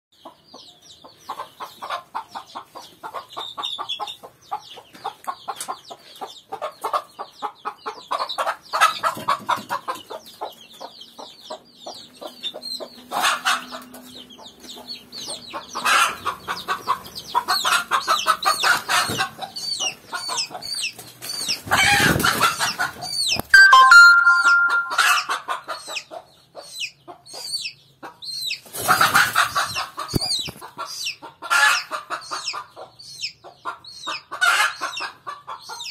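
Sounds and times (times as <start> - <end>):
hen clucking: 0.2 - 23.4, 24.5 - 35.9
chicks peeping: 0.2 - 35.9.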